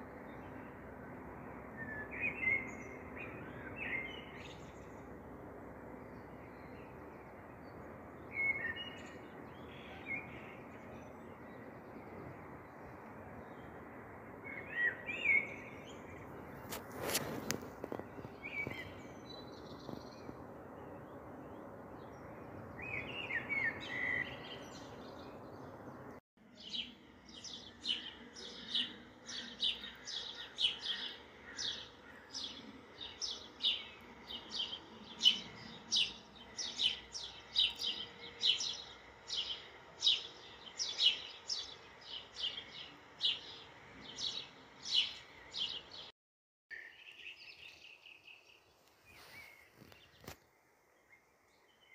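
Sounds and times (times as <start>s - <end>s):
bird chirping: 1.7s - 5.2s, 5.9s - 13.8s, 14.4s - 46.1s, 46.7s - 50.4s.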